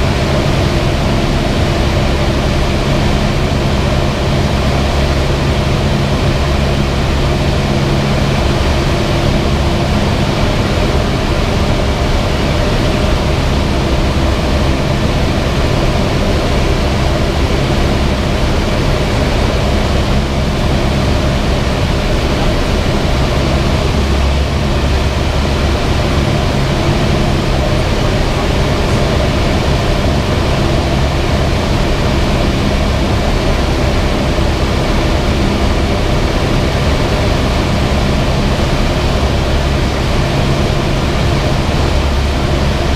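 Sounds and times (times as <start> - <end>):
propeller plane engine drone: 0.0 - 42.9
rushing air noise: 0.0 - 42.9.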